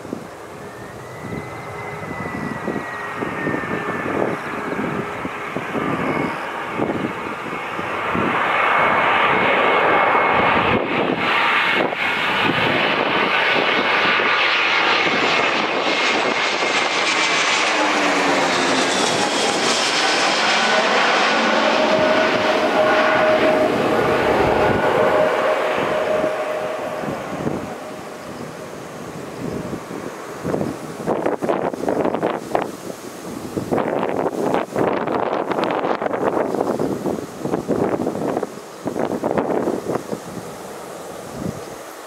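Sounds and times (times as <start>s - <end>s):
jet airliner passing overhead: 0.0s - 42.0s.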